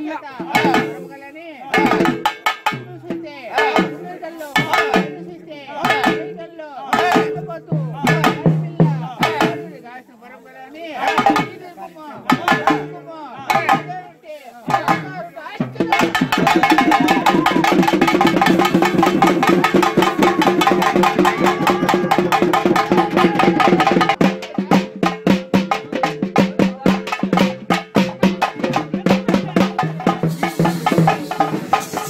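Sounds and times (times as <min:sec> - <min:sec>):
drums beaten fast and hard: 0:00.0 - 0:09.8, 0:11.0 - 0:32.0.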